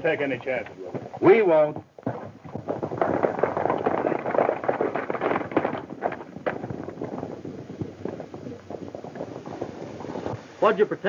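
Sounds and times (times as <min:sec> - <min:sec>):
horses galloping hoofbeats: 0:00.0 - 0:11.0.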